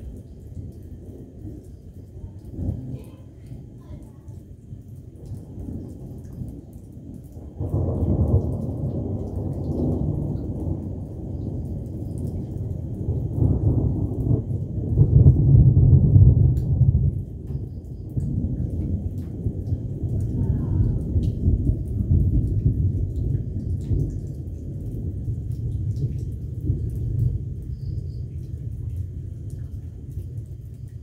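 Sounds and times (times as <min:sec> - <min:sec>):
thunder rumbling: 0:00.0 - 0:31.0.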